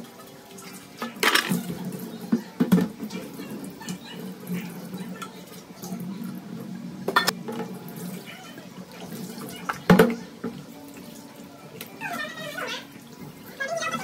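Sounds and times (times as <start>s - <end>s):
tap water running into sink: 0.0s - 14.0s.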